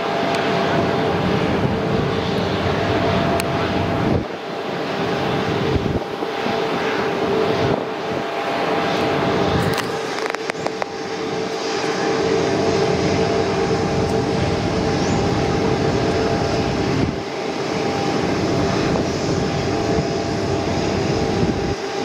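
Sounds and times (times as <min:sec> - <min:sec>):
jet engines rumbling at taxi: 0:00.0 - 0:22.0.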